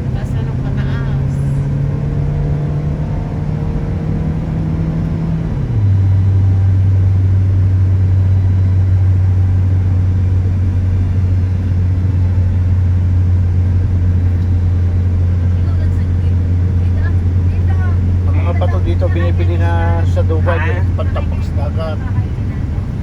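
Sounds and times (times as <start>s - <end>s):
car engine drone: 0.0s - 23.0s
road noise: 0.0s - 23.0s.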